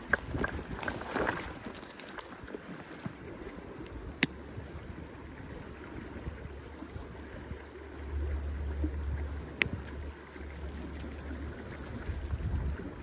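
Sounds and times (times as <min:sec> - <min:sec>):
river running: 0:00.0 - 0:13.0
wind rumbling on microphone: 0:00.0 - 0:13.0.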